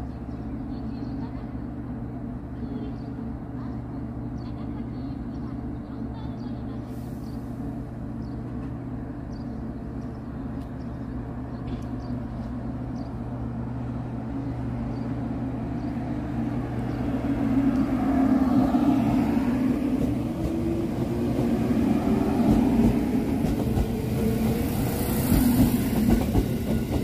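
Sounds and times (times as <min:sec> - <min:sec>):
electric train hum: 0:00.0 - 0:27.0
train wheels rumbling on rails: 0:05.2 - 0:27.0.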